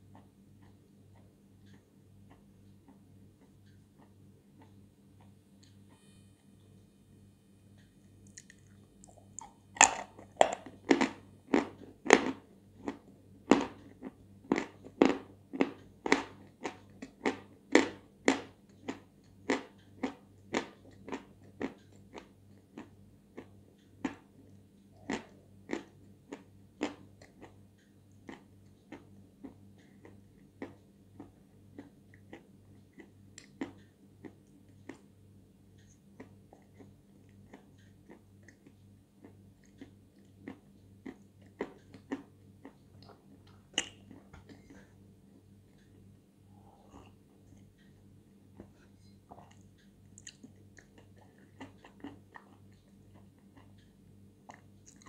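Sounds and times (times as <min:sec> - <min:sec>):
person chewing with crunching: 0:00.0 - 0:06.4, 0:07.8 - 0:35.2, 0:35.8 - 0:55.0.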